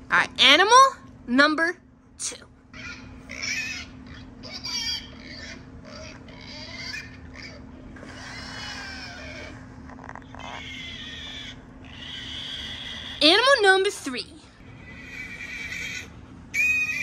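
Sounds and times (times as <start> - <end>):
pig calls through phone speaker: 2.3 - 17.0.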